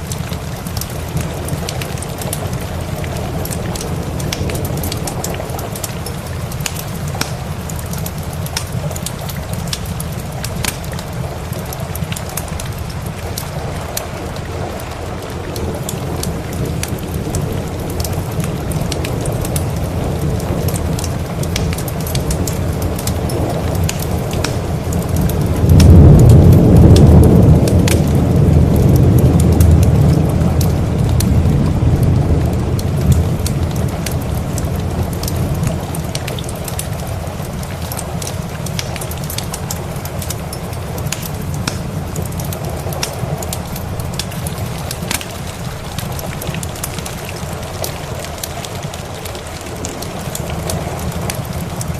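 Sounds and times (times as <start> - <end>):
heavy rain: 0.0 - 51.9
rolling thunder: 0.0 - 51.9
wood fire crackling: 0.0 - 51.9.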